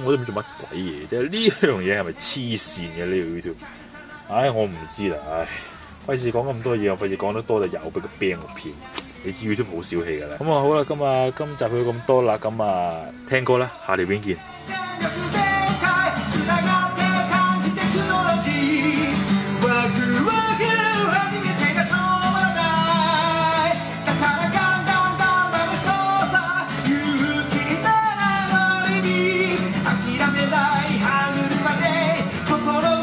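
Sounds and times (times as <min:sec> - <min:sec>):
guitar: 0:00.0 - 0:33.0
person singing: 0:00.0 - 0:33.0.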